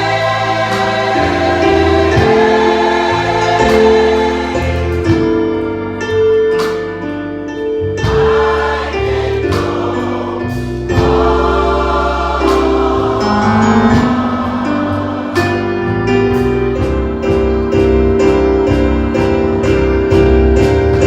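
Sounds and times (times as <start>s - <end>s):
church choir singing: 0.0s - 7.0s, 7.8s - 21.0s
keyboard and bass accompaniment: 0.0s - 21.0s.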